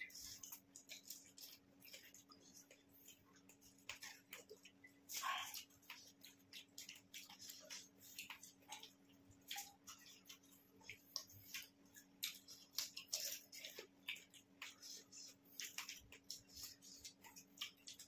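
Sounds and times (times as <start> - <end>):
crunching and chewing: 0.0 - 18.0.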